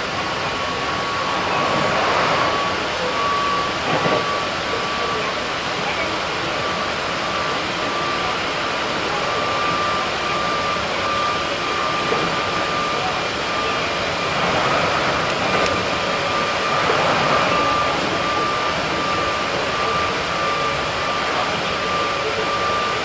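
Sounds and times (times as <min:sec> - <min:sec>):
thin high motor whine: 0:00.0 - 0:23.0
train wheels rumbling on track: 0:00.0 - 0:23.0.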